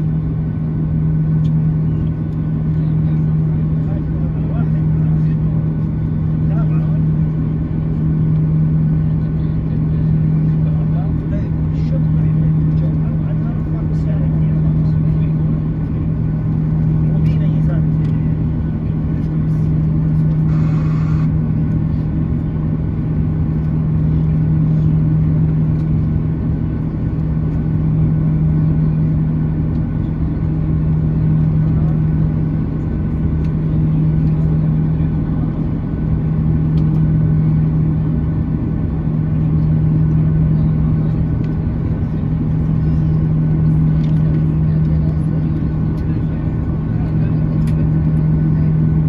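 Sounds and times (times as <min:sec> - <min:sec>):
jet engines idling: 0:00.0 - 0:49.0.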